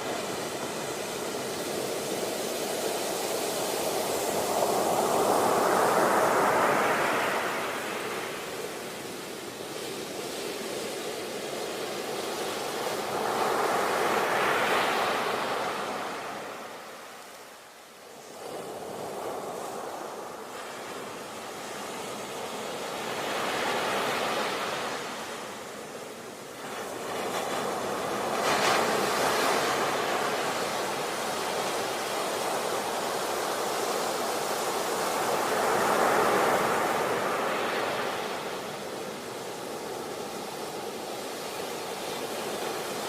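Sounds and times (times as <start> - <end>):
ocean waves breaking on shore: 0.0 - 43.0.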